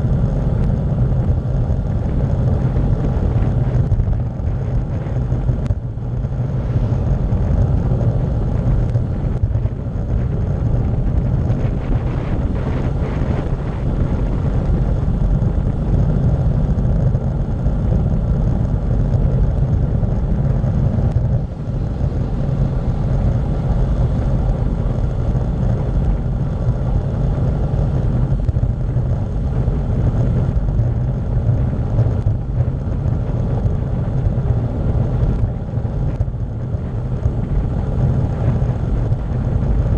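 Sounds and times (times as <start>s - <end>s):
bicycle tyres on asphalt: 0.0s - 39.9s
wind buffeting microphone: 0.0s - 39.9s.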